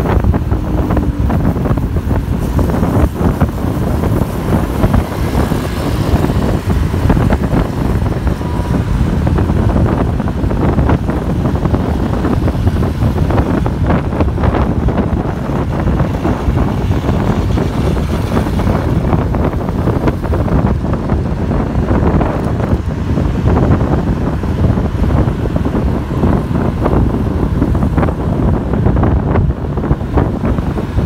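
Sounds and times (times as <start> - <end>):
passing traffic: 0.0 - 31.0
road noise: 0.0 - 31.0
wind buffeting microphone: 0.0 - 31.0.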